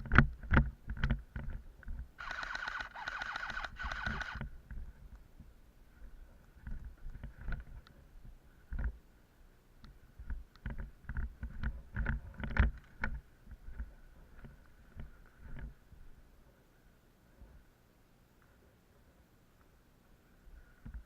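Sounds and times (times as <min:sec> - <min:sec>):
faint steady whine: 0:00.0 - 0:21.0.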